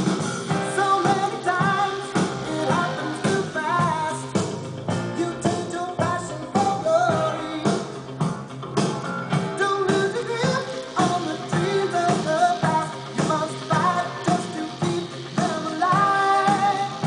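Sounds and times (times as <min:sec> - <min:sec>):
rock-pop song with singing: 0:00.0 - 0:17.0.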